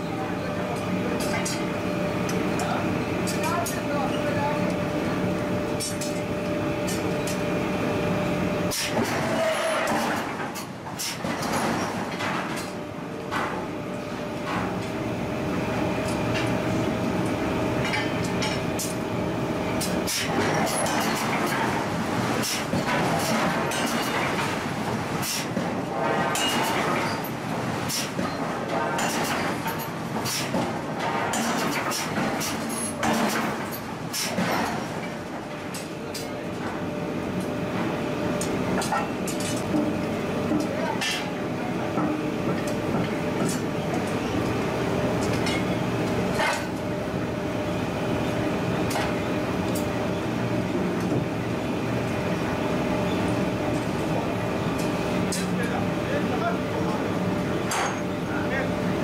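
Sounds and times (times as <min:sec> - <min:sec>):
forging machinery humming: 0:00.0 - 0:59.0.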